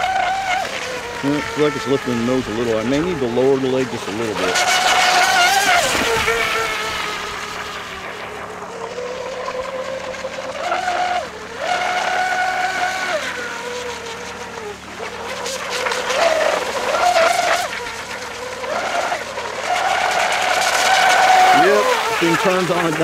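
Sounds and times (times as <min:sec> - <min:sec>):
electric boat motor whine: 0:00.0 - 0:23.0.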